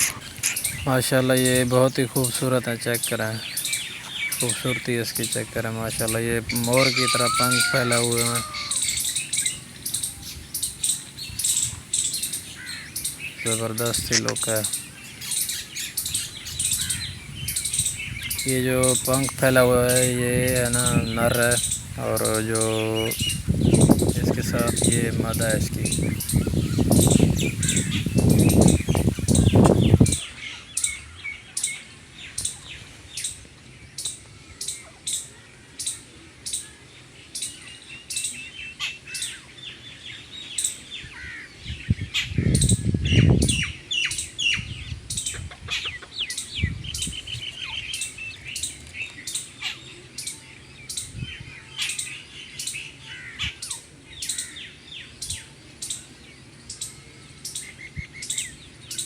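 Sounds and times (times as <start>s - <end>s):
small birds chirping: 0.0s - 59.0s
trilling bird calls: 0.0s - 59.0s.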